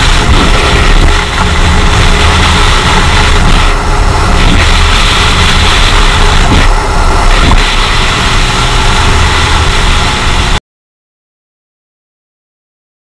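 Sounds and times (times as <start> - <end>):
motorcycle engine running: 0.0 - 10.6
wind noise: 0.0 - 10.6.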